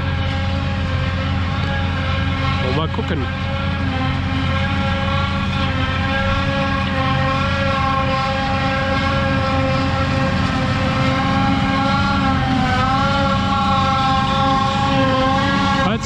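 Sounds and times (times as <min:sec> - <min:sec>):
high whine: 0:00.0 - 0:16.0
tractor engine drone: 0:00.0 - 0:16.0.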